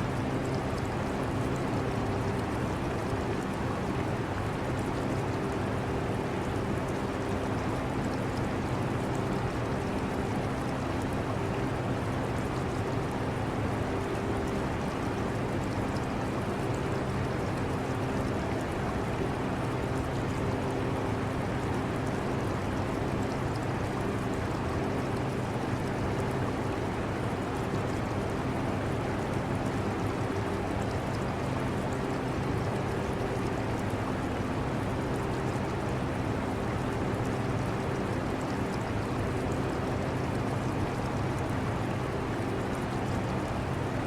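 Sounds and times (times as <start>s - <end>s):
aquarium water sound: 0.0s - 44.0s.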